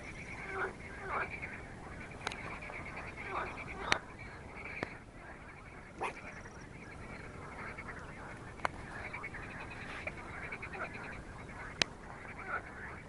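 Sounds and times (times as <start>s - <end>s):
frogs croaking in chorus: 0.0s - 13.0s.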